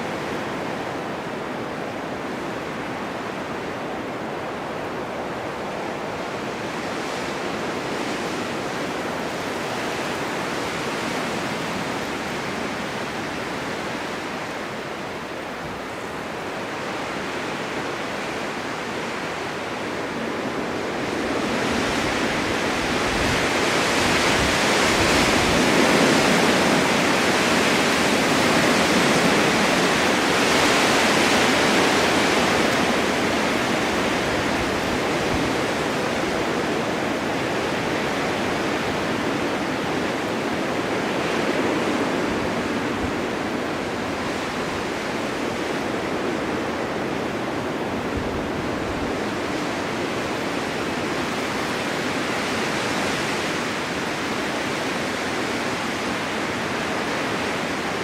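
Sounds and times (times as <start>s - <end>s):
blizzard wind rushing: 0.0s - 58.0s.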